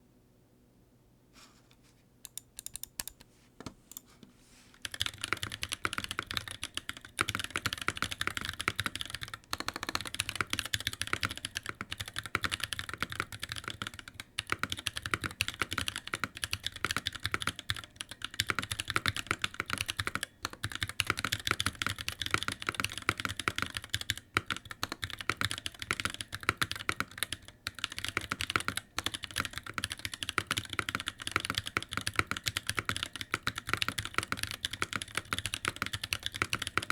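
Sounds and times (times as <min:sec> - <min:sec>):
mechanical keyboard typing: 0:02.3 - 0:03.2, 0:04.8 - 0:36.9.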